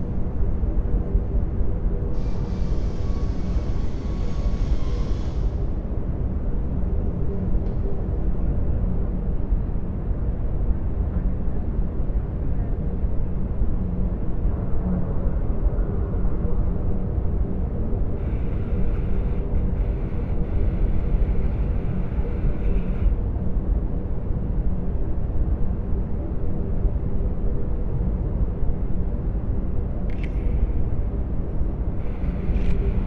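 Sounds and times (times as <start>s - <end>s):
deep rumble with low hum: 0.0s - 33.0s.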